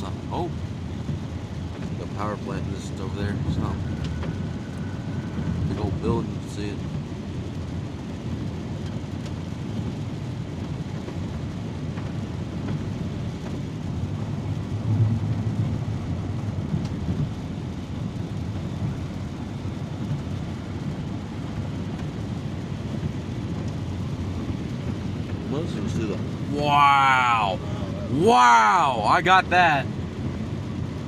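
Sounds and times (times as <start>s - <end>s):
car cabin road and engine rumble: 0.0s - 31.0s.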